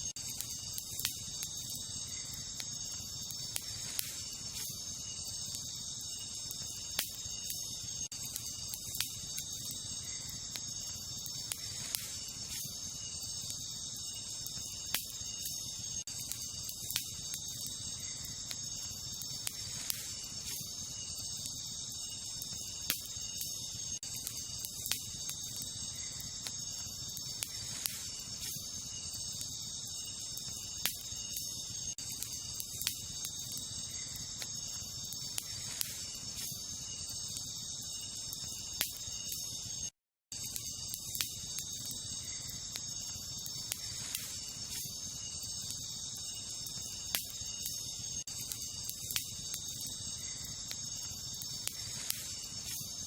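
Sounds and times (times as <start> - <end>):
crickets chirping: 0.0 - 53.0
campfire crackling and popping: 0.1 - 53.0.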